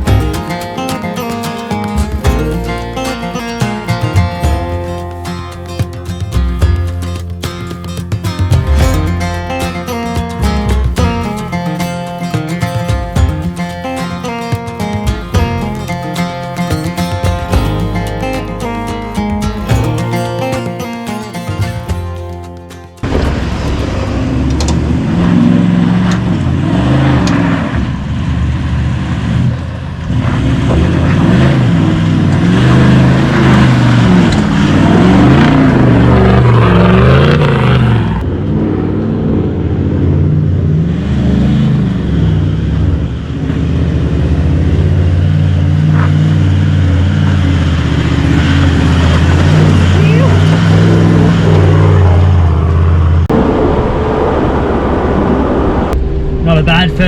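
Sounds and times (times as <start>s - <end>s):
road noise: 0.0s - 57.0s
vehicle engine revving: 0.0s - 57.0s.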